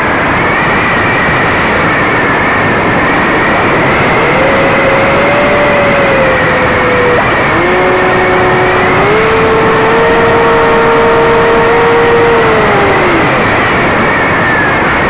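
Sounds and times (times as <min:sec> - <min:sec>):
wind rush over microphone: 0:00.0 - 0:15.0
model aircraft motor whine: 0:00.6 - 0:15.0.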